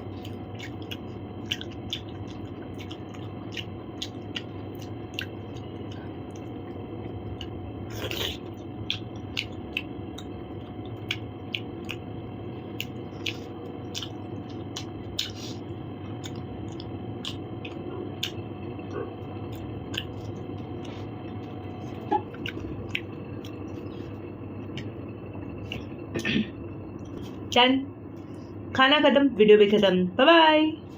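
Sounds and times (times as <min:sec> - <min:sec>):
close chewing and mouth smacks: 0:00.0 - 0:12.1, 0:12.7 - 0:26.0
steady background hum: 0:00.0 - 0:30.9.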